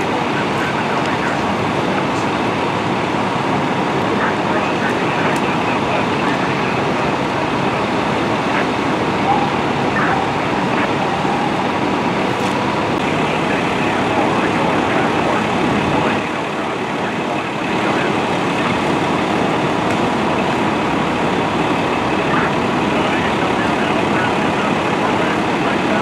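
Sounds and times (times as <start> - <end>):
fire engines idling: 0.0 - 26.0
street traffic: 0.0 - 26.0.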